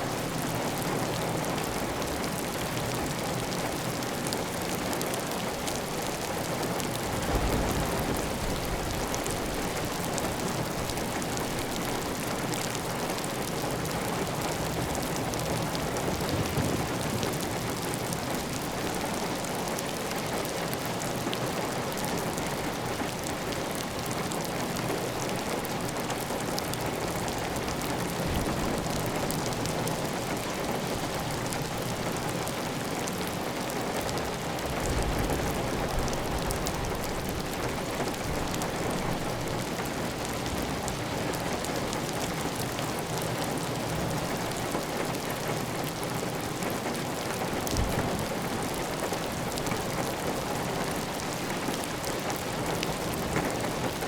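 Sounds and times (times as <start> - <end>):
heavy rain on a tile roof: 0.0 - 54.0.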